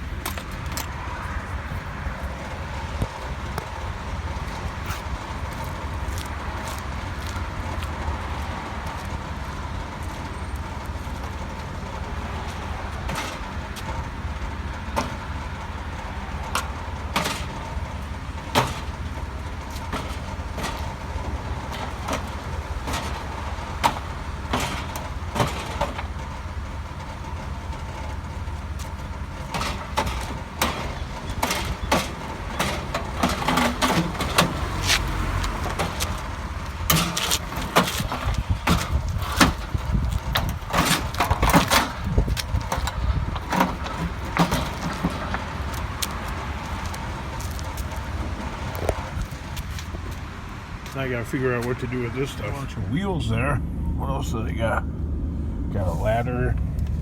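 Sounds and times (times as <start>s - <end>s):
sharp knocks and rattles: 0.0s - 50.9s
low vehicle rumble: 0.0s - 57.0s.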